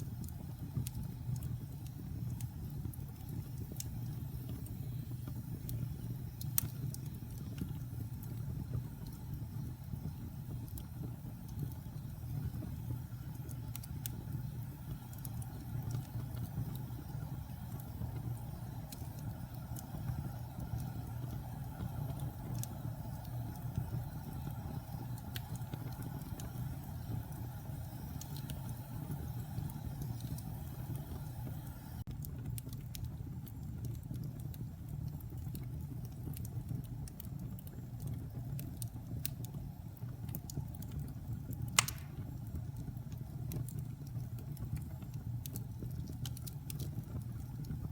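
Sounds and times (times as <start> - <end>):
fire crackling and popping: 0.0 - 47.9
wood fire rumbling: 0.0 - 47.9.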